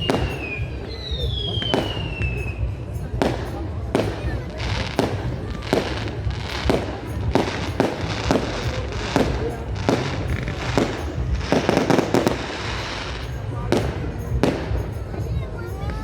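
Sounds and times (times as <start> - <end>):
fireworks bangs: 0.0 - 15.5
fireworks crackling: 0.0 - 16.0.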